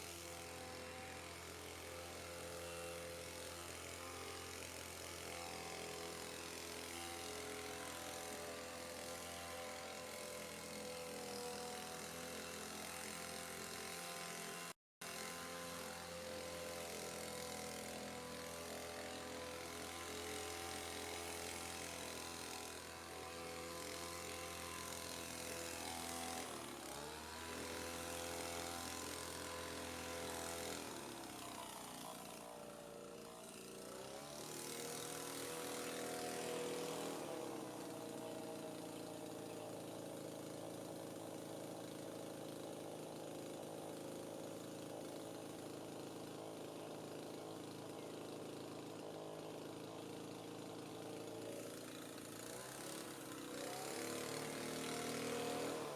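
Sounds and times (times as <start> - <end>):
leaf blower engine running: 0.0 - 55.9.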